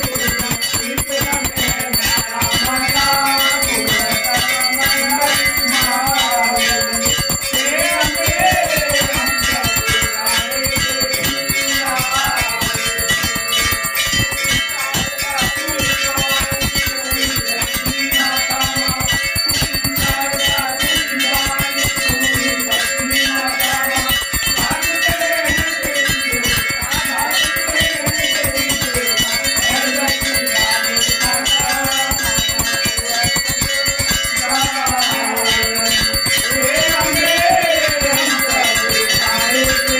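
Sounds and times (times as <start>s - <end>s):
people singing devotional song: 0.0s - 39.9s
temple bells ringing rapidly: 0.0s - 39.9s.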